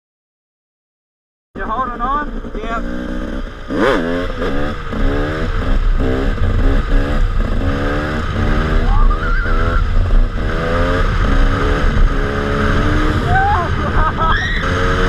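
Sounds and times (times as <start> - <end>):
dirt bike engine revving: 1.6 - 15.0.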